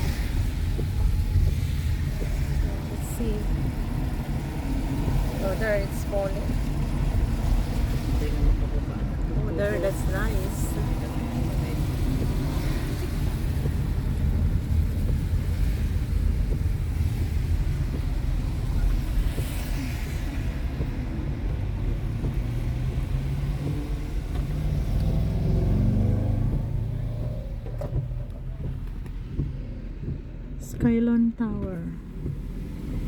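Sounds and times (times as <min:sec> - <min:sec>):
car engine accelerating: 0:00.0 - 0:30.8
road rumble inside car: 0:00.0 - 0:33.0.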